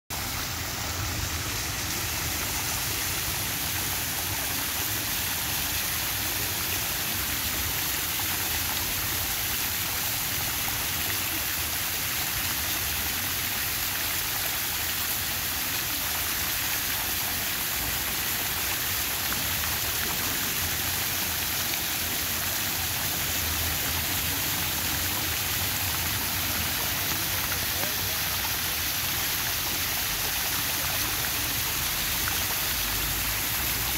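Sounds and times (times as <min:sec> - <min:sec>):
water jets splashing into basin: 0:00.1 - 0:33.9.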